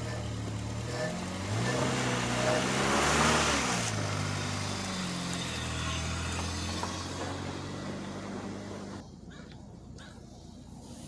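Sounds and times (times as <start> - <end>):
car engine running at low speed: 0.0 - 9.0.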